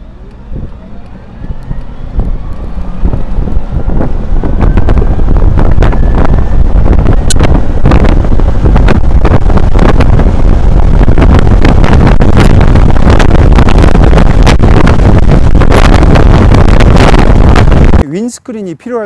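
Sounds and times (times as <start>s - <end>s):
electric scooter rumble: 0.0s - 18.0s
wind buffeting microphone: 0.0s - 18.1s.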